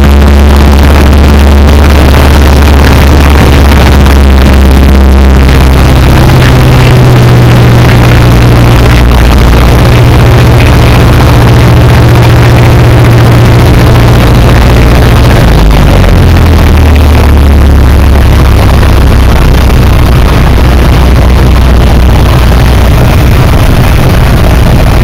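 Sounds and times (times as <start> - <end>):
light aircraft engine drone: 0.0 - 25.0.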